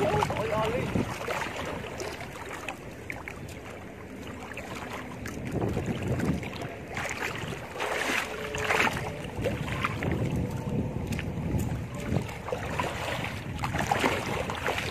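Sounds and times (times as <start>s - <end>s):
fishing net hauled from water: 0.0s - 14.9s
person wading through water: 0.0s - 14.9s.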